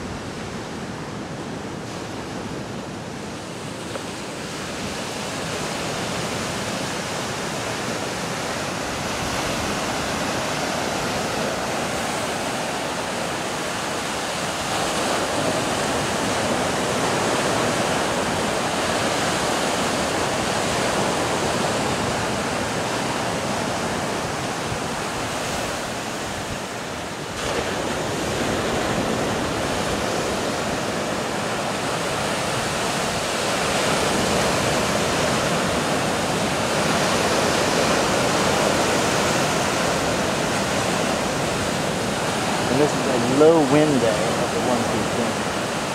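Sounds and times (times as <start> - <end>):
surf breaking on rocky shore: 1.8 - 45.9.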